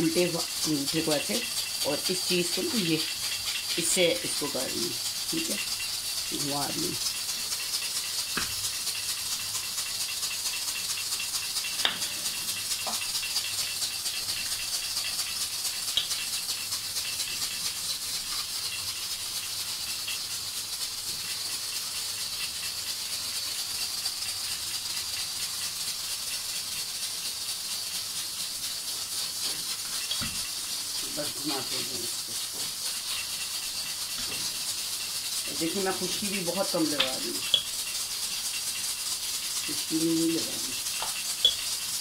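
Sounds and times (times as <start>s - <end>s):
steady high hiss: 0.0s - 42.0s.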